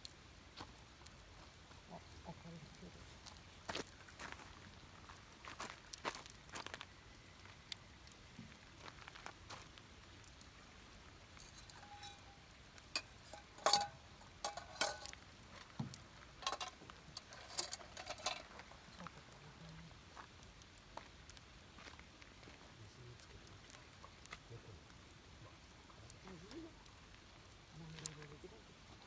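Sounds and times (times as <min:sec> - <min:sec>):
campfire crackling: 0:00.0 - 0:29.0.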